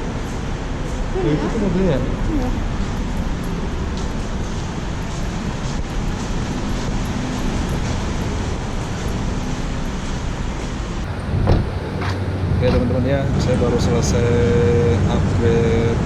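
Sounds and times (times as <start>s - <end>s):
car and road traffic rumble: 0.0s - 16.0s.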